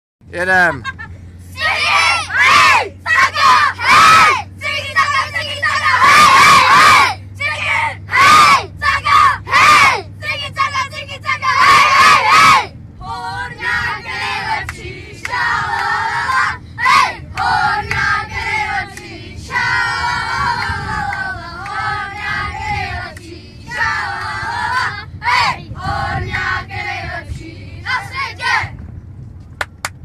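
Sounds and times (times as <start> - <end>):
minibus rumble: 0.2 - 30.0.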